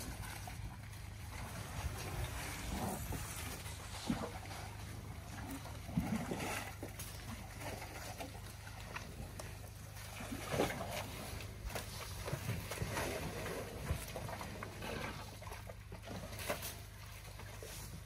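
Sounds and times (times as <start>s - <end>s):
elephants squelching in mud: 0.0s - 18.0s.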